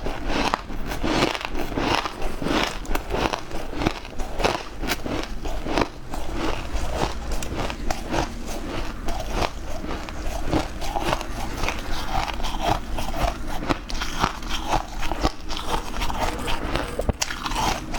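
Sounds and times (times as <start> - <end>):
ice being bitten and crunched: 0.0 - 17.9.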